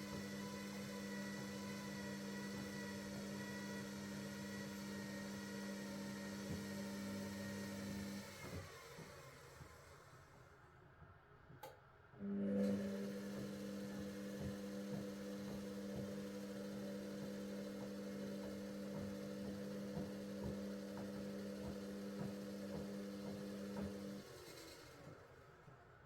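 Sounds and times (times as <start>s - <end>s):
washing machine humming: 0.0s - 10.1s, 12.2s - 25.3s.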